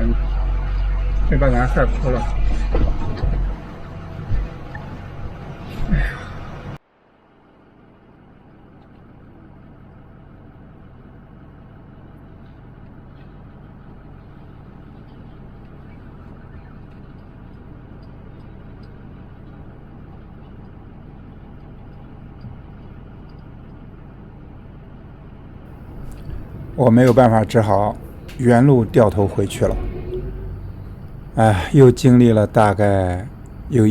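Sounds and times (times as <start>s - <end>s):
motorhome engine and road noise: 0.0s - 6.8s, 7.9s - 33.9s.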